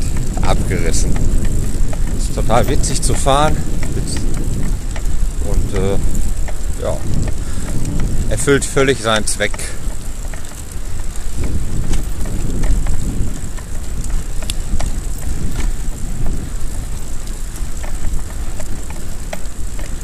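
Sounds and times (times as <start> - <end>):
bicycle tyre noise: 0.0 - 20.0
faint clicks: 0.0 - 20.0
wind on microphone: 0.0 - 20.0.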